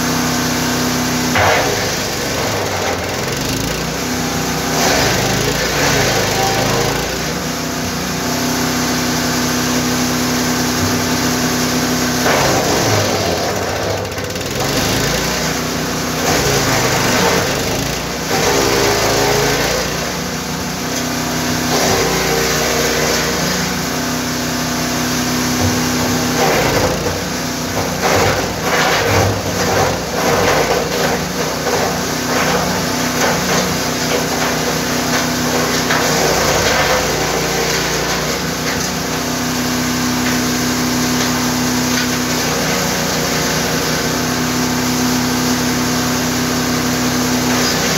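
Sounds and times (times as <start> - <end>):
wood chipper engine running: 0.0 - 47.9
wood cracking in chipper: 0.6 - 47.9.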